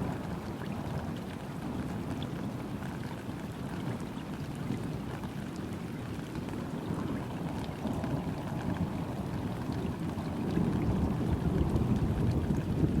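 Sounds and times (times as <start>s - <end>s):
rain pattering on river: 0.0s - 13.0s
water rushing: 0.0s - 13.0s.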